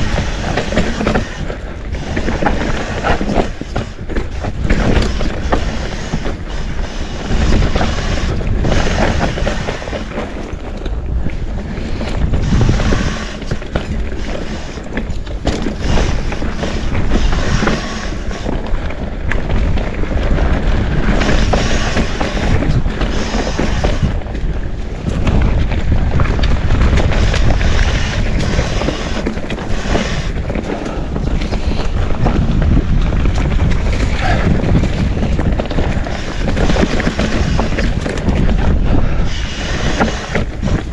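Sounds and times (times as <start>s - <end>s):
bike rattling and knocking: 0.0s - 40.9s
tyres rumbling on dirt: 0.0s - 40.9s
wind on microphone: 0.0s - 40.9s.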